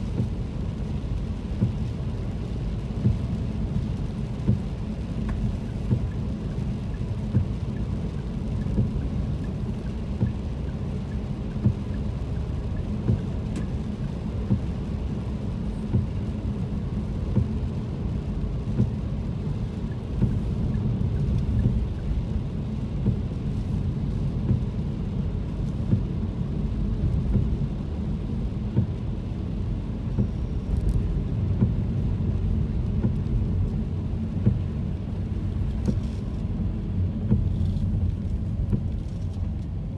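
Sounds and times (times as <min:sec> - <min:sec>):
car engine: 0:00.0 - 0:39.9
rain on car: 0:00.0 - 0:39.9
tyres on wet road: 0:00.0 - 0:39.9
windscreen wipers knocking: 0:00.0 - 0:39.9.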